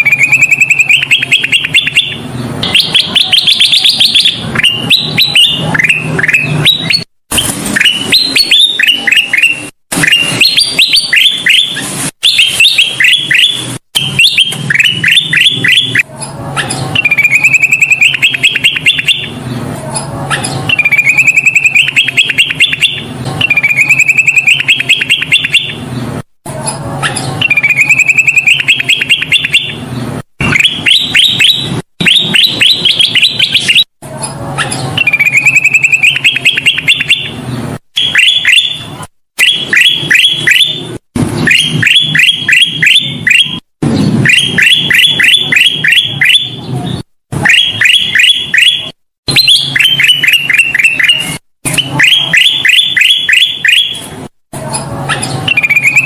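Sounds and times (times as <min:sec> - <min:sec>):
bird chirping trills: 0:00.0 - 0:54.2, 0:54.8 - 0:56.0.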